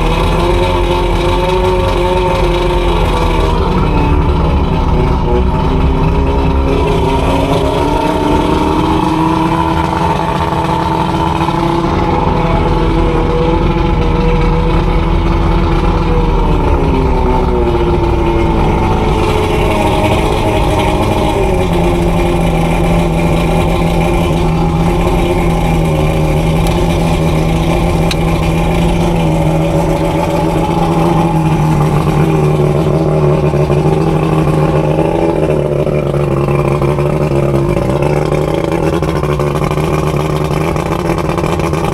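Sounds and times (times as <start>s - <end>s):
outboard motor running: 0.0s - 41.9s.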